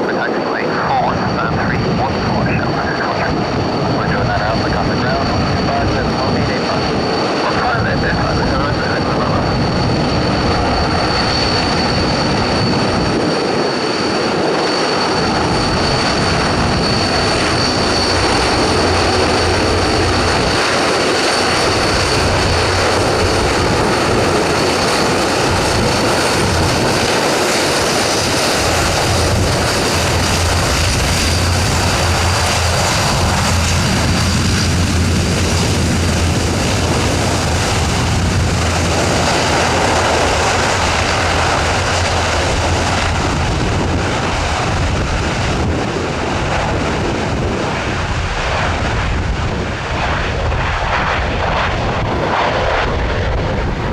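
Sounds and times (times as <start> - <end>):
turboprop engines running: 0.0 - 53.9.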